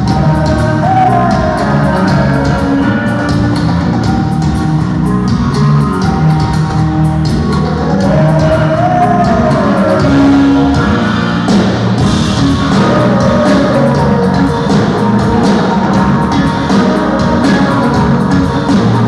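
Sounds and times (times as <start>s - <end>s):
person singing long notes: 0.0s - 4.5s, 5.1s - 19.0s
live rock band playing: 0.0s - 19.0s.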